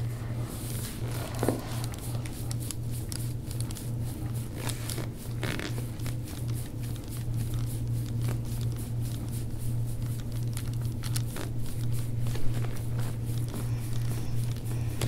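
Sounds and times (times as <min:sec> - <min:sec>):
low pulsing hum: 0:00.0 - 0:15.0
rubbing of skin and fabric: 0:00.0 - 0:15.0.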